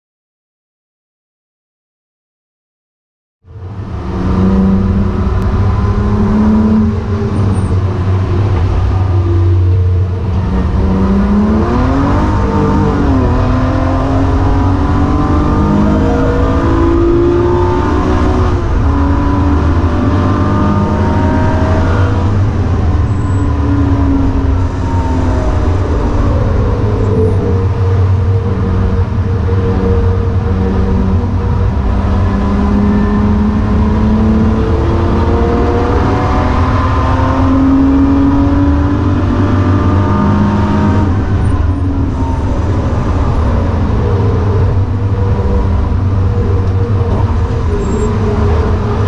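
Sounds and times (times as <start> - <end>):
car engine rumbling under load: 3.4 - 49.0.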